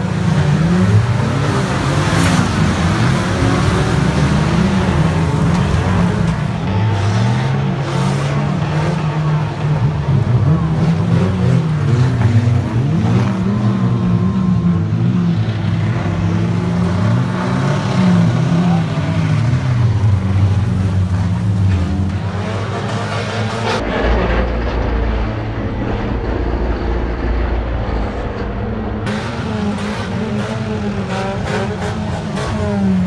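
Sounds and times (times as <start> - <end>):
racing car engines revving: 0.0 - 33.0.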